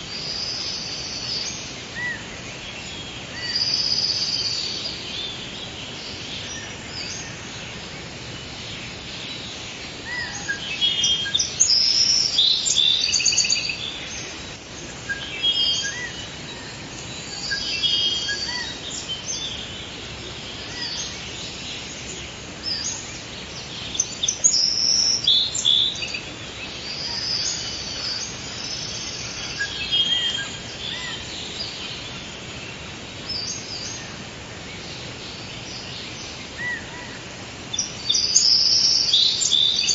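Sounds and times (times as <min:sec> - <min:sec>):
songbirds chirping and trilling: 0:00.0 - 0:39.9
steady soft hiss: 0:00.0 - 0:39.9.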